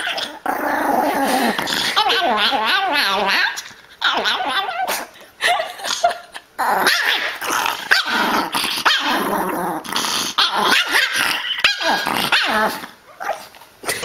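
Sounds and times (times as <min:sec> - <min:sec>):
small dog growling and barking: 0:00.0 - 0:05.2, 0:06.0 - 0:14.0.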